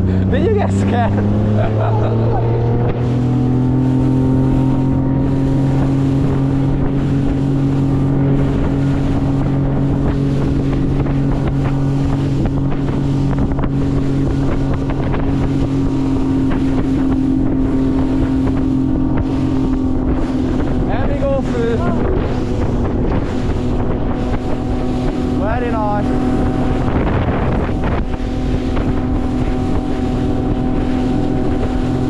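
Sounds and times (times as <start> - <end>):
outboard motor running: 0.0 - 32.0
water slapping against hull: 0.0 - 32.0
wind buffeting microphone: 0.0 - 32.0.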